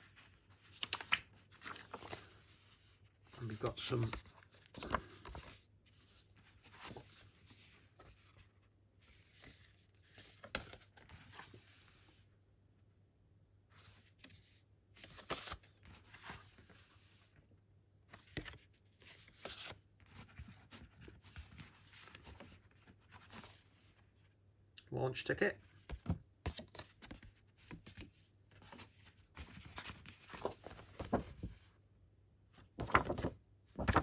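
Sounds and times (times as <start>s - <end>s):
paper rustling: 0.0s - 12.2s, 13.7s - 17.3s, 18.1s - 24.2s, 25.7s - 31.7s, 32.5s - 34.0s.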